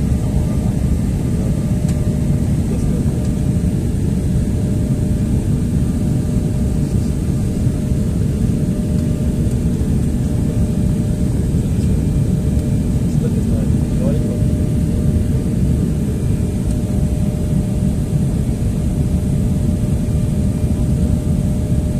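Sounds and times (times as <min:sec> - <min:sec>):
faint steady whine: 0:00.0 - 0:21.9
jet engines and airflow rushing: 0:00.0 - 0:21.9.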